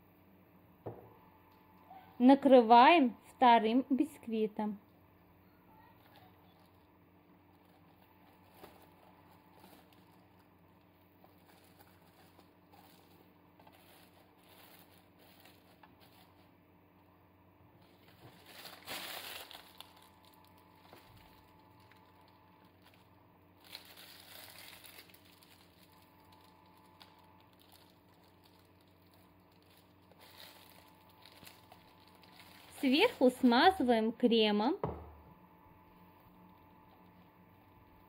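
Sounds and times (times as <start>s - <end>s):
faint crinkling: 4.8s - 17.1s, 17.8s - 33.9s, 35.8s - 38.0s.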